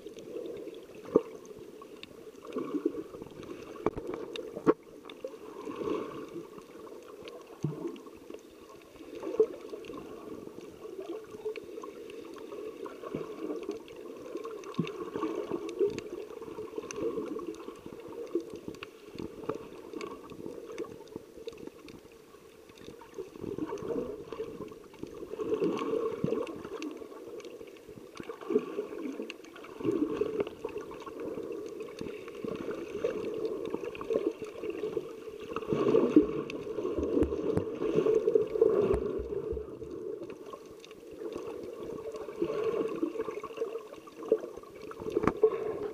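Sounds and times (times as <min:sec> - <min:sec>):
faint ticks: 0:00.0 - 0:05.5, 0:06.2 - 0:45.9.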